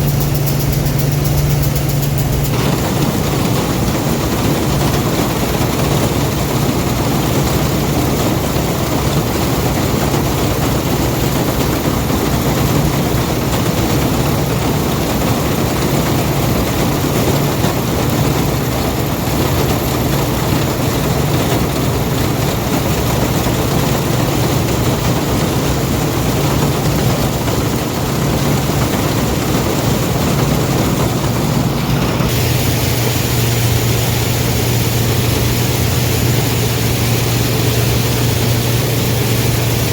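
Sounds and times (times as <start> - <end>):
combine engine hum: 0.0 - 39.9
threshing machinery noise: 0.0 - 39.9.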